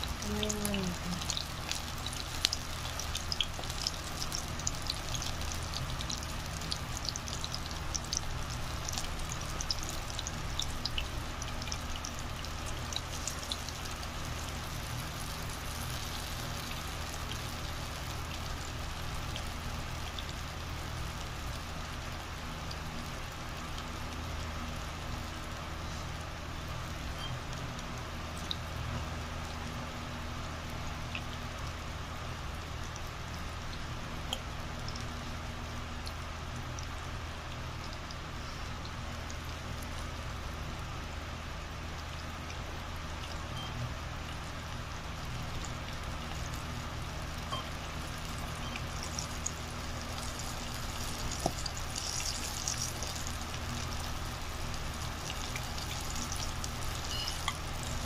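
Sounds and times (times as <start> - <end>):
chicken frying in hot oil: 0.0 - 58.0
steady low hum: 0.0 - 58.0.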